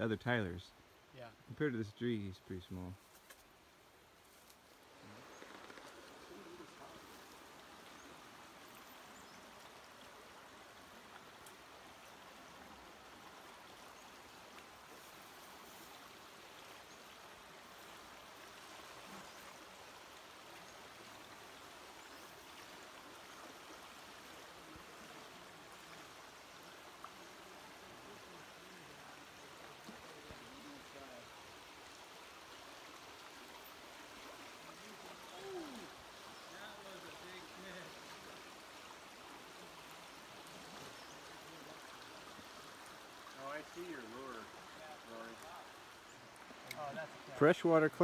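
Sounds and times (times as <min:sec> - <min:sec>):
creek flowing over rocks: 0:00.0 - 0:48.0.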